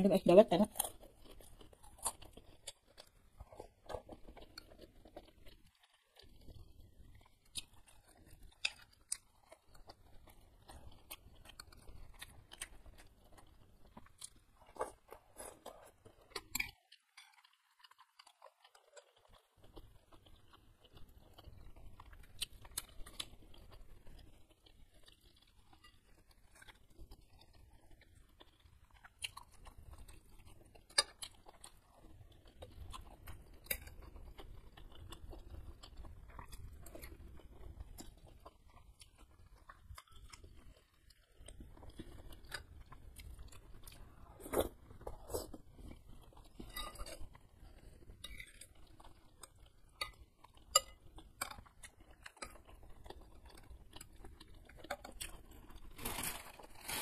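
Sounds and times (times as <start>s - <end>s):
wet chewing: 0.6s - 57.0s.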